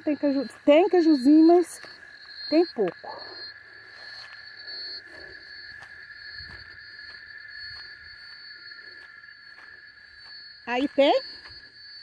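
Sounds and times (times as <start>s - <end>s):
footsteps through dry grass: 0.0s - 12.0s
insect buzzing: 0.0s - 12.0s.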